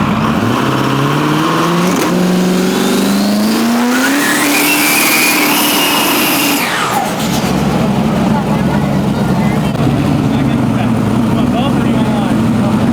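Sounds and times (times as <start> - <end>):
truck engine accelerating: 0.0 - 12.9.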